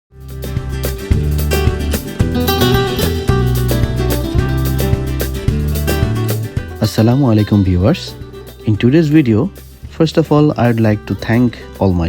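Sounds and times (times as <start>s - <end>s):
held bass notes: 0.1s - 12.0s
plucked guitar notes: 0.2s - 12.0s.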